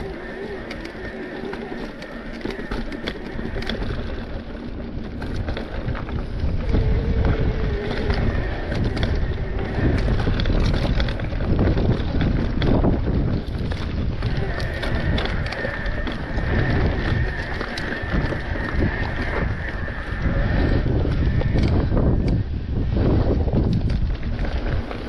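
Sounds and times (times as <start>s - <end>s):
bike clicks and rattles: 0.0s - 25.0s
bike tyres crunching over stones: 0.0s - 25.0s
wind rumble on microphone: 0.0s - 25.0s.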